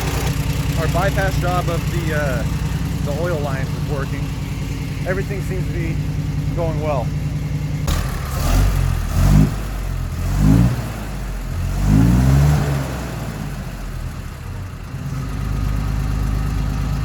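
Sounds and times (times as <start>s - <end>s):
truck engine revving and idling: 0.0s - 17.0s.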